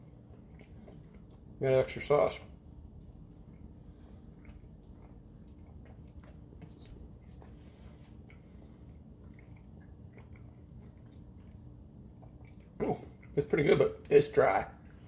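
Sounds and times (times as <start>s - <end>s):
person chewing food: 0.0s - 1.6s, 2.5s - 13.4s.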